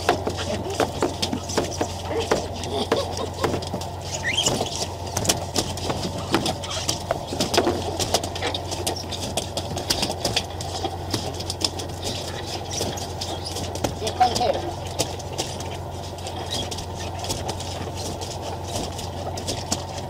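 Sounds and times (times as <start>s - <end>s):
boat engine idling: 0.0s - 20.0s
sharp clicks and knocks: 0.0s - 20.0s.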